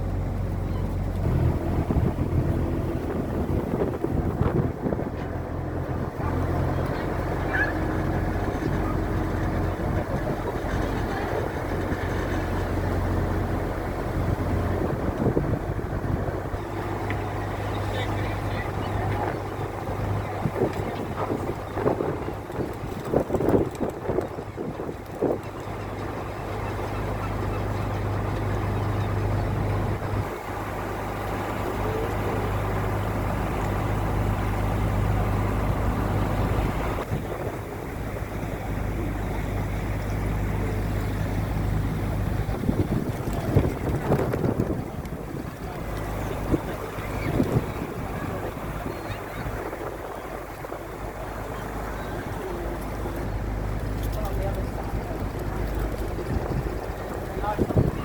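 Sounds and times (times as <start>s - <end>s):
boat engine drone: 0.0s - 58.0s
wind and water rushing: 0.0s - 58.0s.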